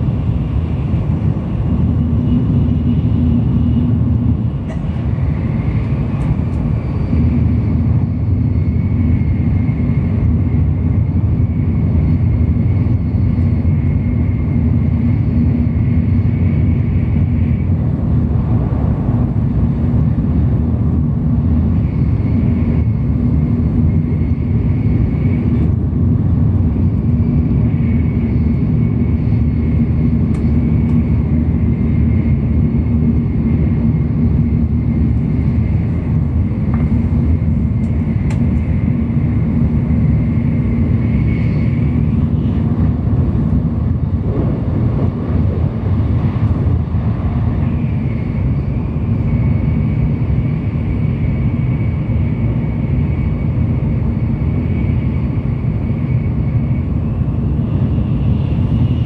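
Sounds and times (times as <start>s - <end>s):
train interior low rumble: 0.0s - 59.0s.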